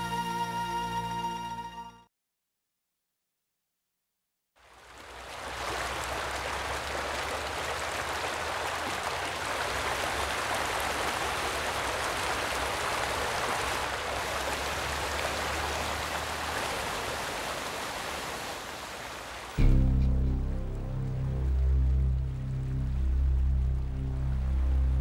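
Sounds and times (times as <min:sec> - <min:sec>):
floodwater rushing: 0:04.6 - 0:25.0.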